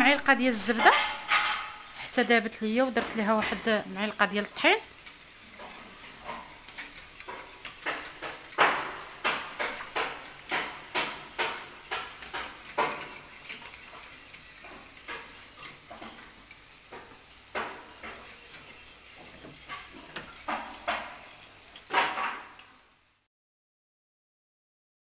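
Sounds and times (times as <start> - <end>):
whisk scraping metal saucepan: 0.1 - 22.8.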